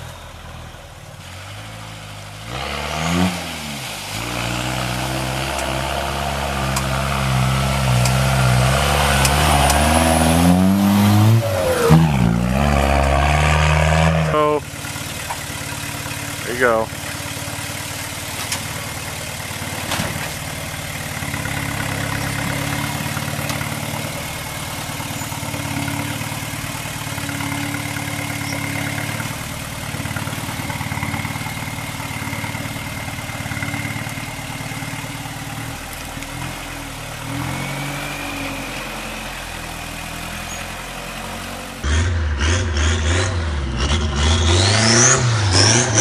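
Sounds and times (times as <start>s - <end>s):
truck engine running at low revs: 0.0s - 46.0s.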